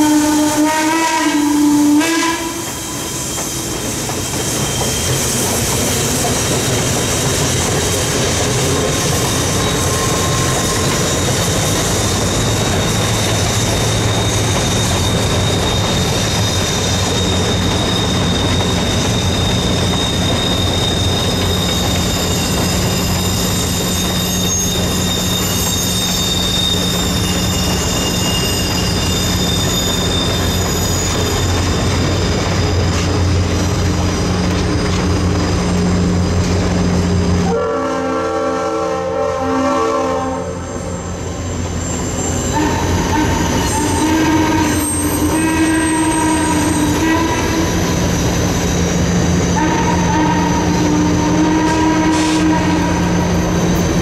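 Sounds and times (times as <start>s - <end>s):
wheels squealing: 0.0s - 38.1s, 40.6s - 54.0s
train wheels rumbling on rails: 0.0s - 54.0s.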